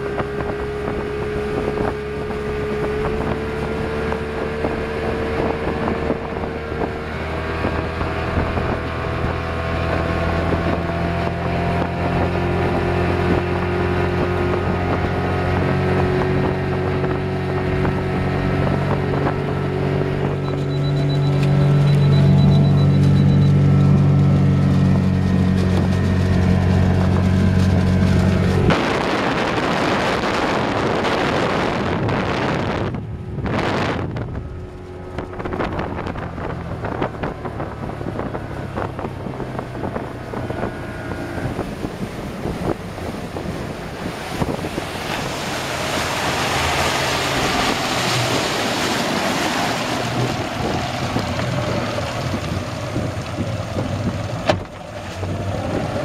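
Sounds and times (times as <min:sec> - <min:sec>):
outboard engine running: 0:00.0 - 0:56.0
rushing wake and spray: 0:00.0 - 0:56.0
wind on microphone: 0:00.0 - 0:56.0.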